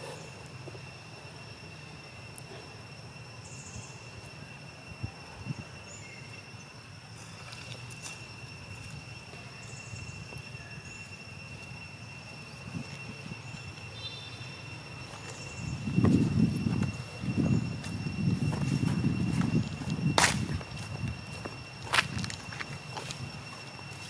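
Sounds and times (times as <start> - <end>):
high-pitched whine: 0.0 - 24.0.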